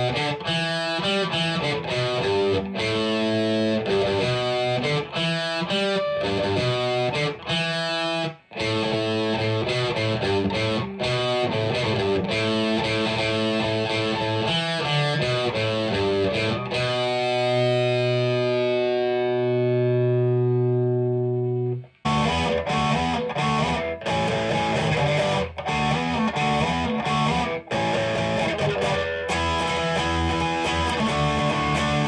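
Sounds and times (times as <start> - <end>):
distorted electric guitar riff: 0.0 - 32.0.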